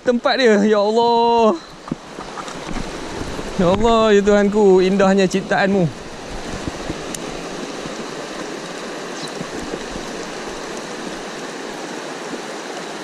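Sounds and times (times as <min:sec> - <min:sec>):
stream rushing over stones: 0:00.0 - 0:13.0.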